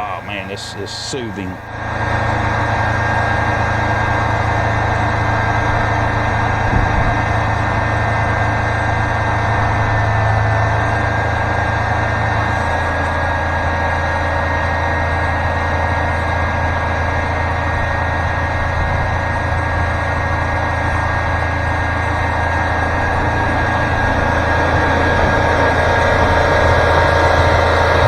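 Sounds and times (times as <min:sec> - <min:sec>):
diesel engine humming: 0:00.0 - 0:28.0
thin steady whine: 0:00.0 - 0:28.0.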